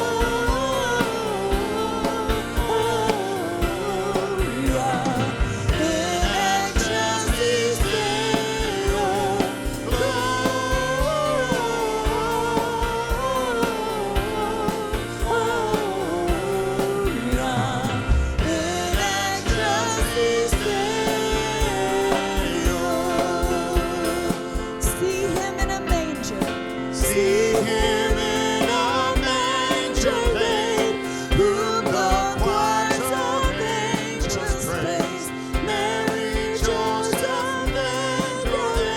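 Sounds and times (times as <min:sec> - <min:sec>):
drum beats: 0:00.0 - 0:38.9
live band playing: 0:00.0 - 0:38.9
person singing: 0:00.0 - 0:38.9.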